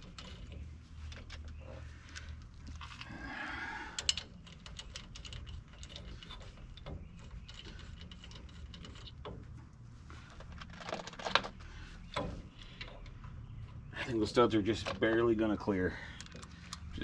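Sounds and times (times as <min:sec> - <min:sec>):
metallic clicks of lug nuts: 0:00.0 - 0:13.9, 0:16.0 - 0:17.0.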